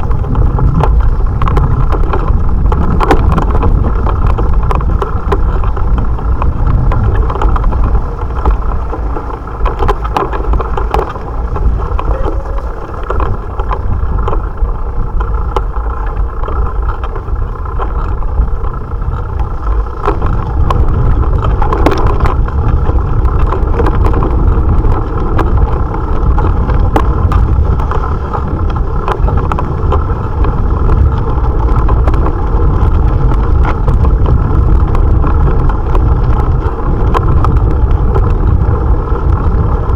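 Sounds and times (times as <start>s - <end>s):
bicycle tyre and road rumble: 0.0s - 39.9s
clicks and rattles: 0.0s - 39.9s
wind buffeting microphone: 0.0s - 39.9s.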